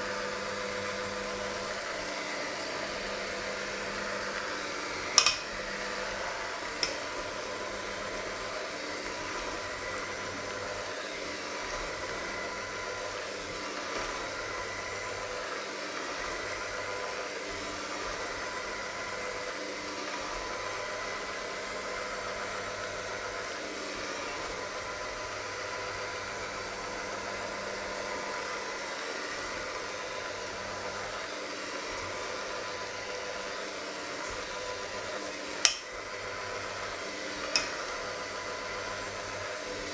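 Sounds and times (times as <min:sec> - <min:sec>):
electric hand mixer whisking: 0:00.0 - 0:39.9.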